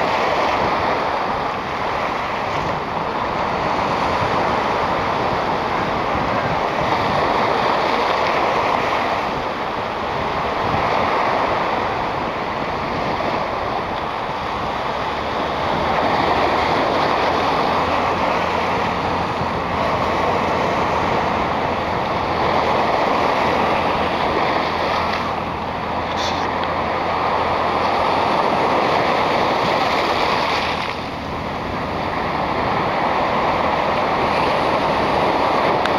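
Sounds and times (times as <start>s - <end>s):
waves washing onto sandy beach: 0.0s - 35.9s.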